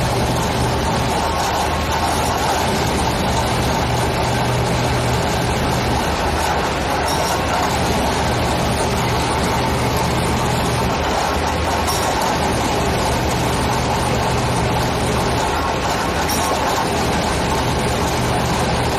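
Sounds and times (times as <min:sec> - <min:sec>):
heavy diesel engine running: 0:00.0 - 0:18.9.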